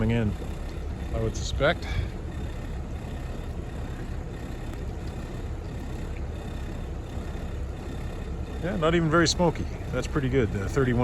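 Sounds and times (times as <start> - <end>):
marine diesel engines rumbling: 0.0 - 11.0.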